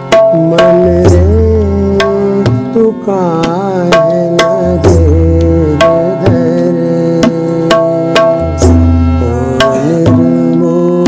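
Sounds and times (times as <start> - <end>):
harmonium held notes: 0.0 - 11.0
tabla strokes: 0.0 - 11.0.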